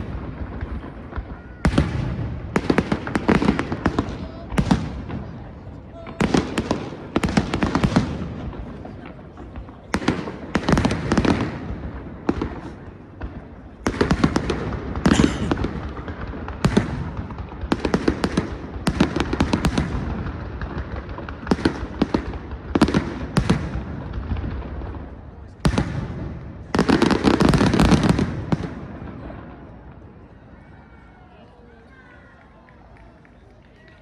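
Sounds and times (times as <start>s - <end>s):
fireworks cracking and popping: 0.0s - 30.3s.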